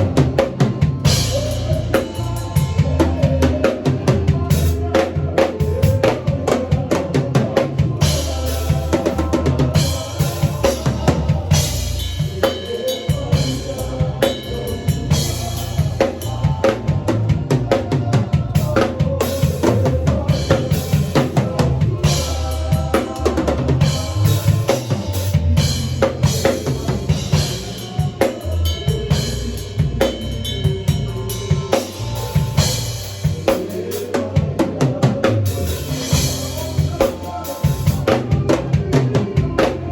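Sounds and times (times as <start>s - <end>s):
drum kit playing groove: 0.0s - 39.9s.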